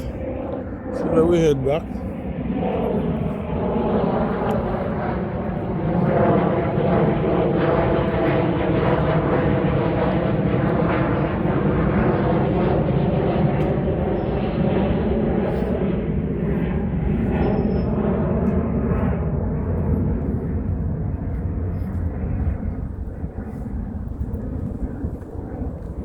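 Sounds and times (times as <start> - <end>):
airplane engine drone: 0.0 - 26.0.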